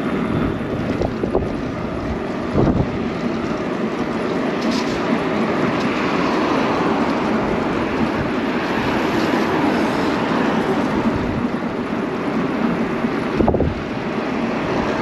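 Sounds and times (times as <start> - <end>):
tyre and road noise: 0.0 - 15.0
wind buffeting microphone: 0.0 - 15.0.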